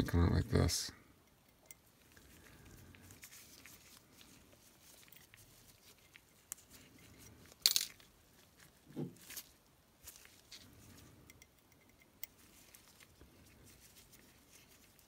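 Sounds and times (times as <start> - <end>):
gloved hands handling: 1.8 - 11.2, 12.2 - 15.0.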